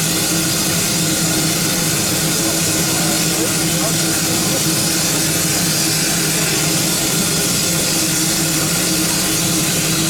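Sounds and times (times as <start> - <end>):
locomotive hissing: 0.0 - 10.0.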